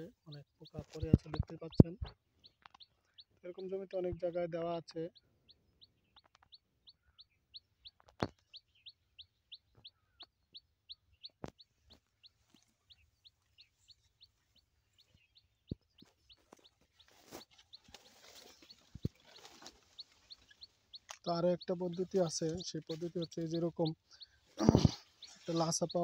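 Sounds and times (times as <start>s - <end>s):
small bird chirping: 0.0s - 26.0s.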